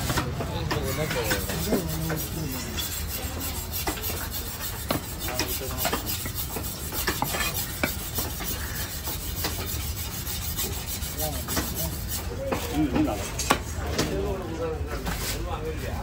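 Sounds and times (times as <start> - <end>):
knife scraping fish: 0.8 - 14.2.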